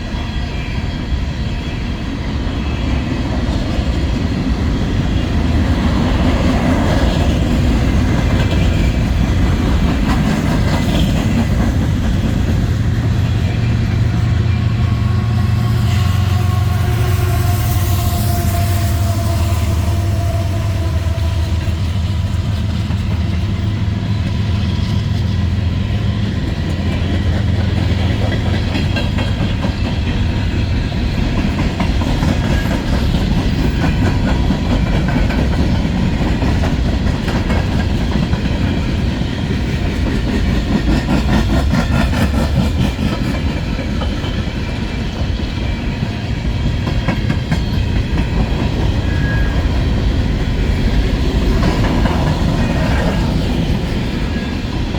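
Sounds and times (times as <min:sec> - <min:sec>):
freight train rumbling past: 0:00.0 - 0:54.9
wheels clicking over rail joints: 0:03.4 - 0:14.8, 0:21.5 - 0:54.9.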